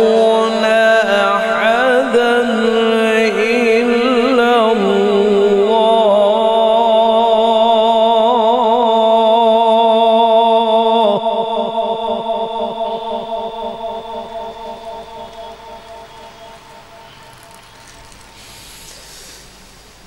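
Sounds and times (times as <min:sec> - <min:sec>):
man chanting into a microphone: 0:00.0 - 0:17.1.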